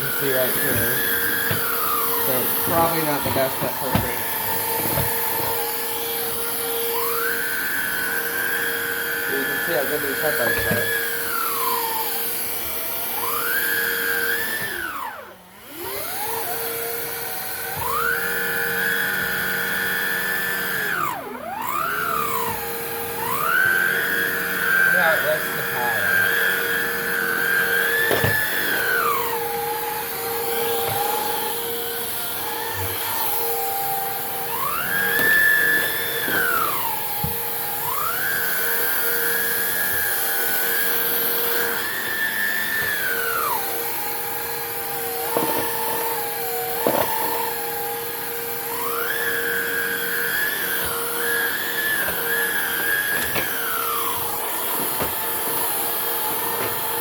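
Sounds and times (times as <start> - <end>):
stick vacuum whining: 0.0 - 57.0.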